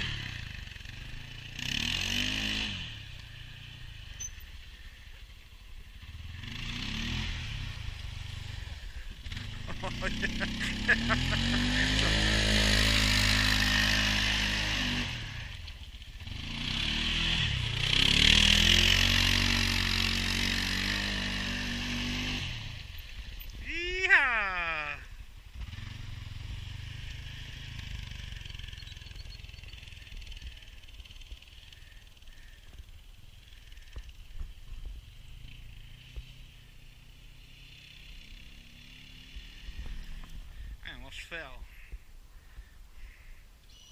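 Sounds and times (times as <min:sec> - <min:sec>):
engine revving: 0:00.0 - 0:05.0, 0:05.8 - 0:32.6, 0:35.0 - 0:41.5.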